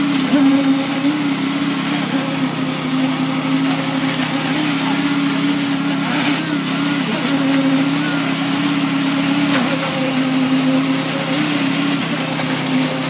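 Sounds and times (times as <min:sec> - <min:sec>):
machinery engine running under load: 0:00.0 - 0:13.0.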